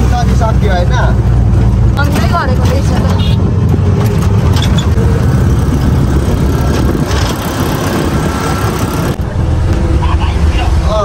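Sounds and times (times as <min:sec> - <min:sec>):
auto-rickshaw engine rumbling: 0:00.0 - 0:11.0
road noise: 0:00.0 - 0:11.0.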